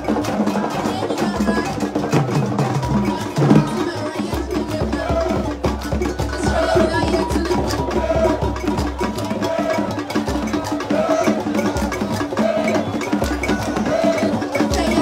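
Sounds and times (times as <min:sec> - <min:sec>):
upbeat music with fast percussion: 0:00.0 - 0:15.0.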